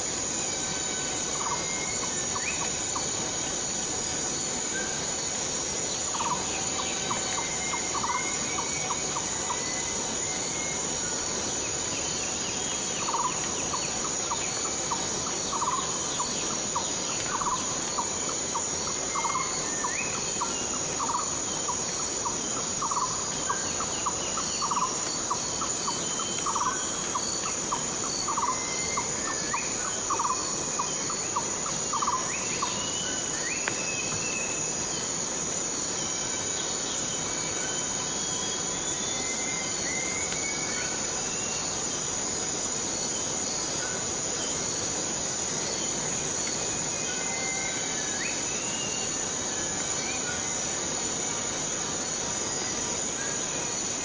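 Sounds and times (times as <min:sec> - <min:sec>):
high-pitched insect drone: 0:00.0 - 0:54.0
rain hissing: 0:00.0 - 0:54.0.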